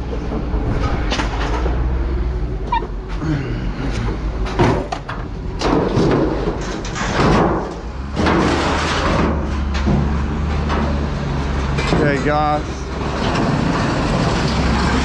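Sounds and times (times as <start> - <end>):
sheet metal clanking and scraping: 0.0 - 3.2, 4.0 - 15.0.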